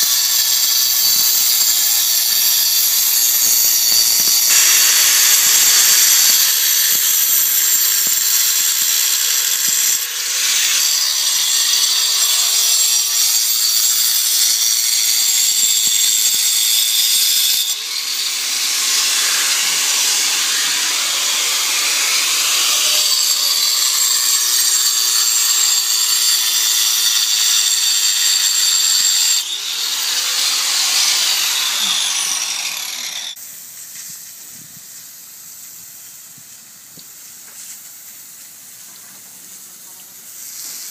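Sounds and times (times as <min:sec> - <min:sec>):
power saw cutting concrete: 0:00.0 - 0:33.4.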